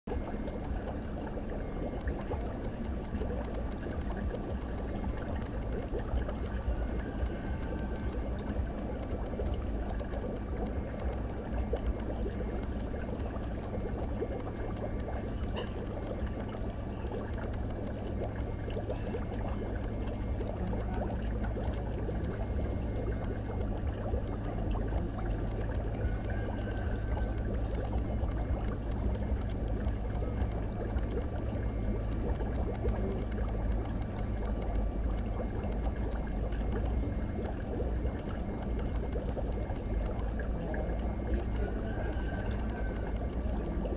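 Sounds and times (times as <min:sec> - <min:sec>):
faint steady hum: 0:00.0 - 0:43.9
water bubbling and trickling: 0:00.0 - 0:43.9.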